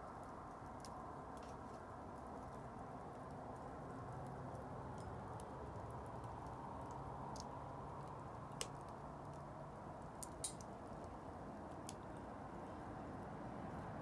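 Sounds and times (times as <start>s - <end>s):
wood bonfire burning: 0.0s - 14.0s
fire crackling pops: 0.1s - 12.3s.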